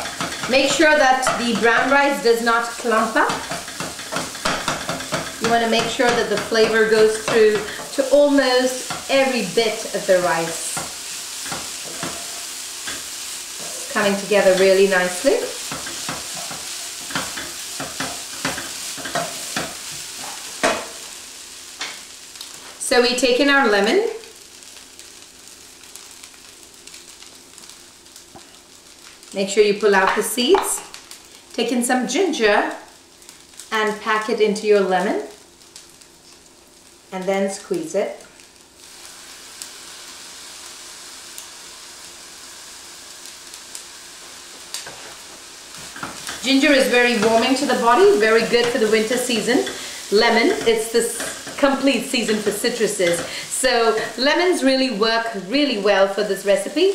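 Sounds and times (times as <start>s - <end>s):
food sizzling in a skillet: 0.0s - 56.9s.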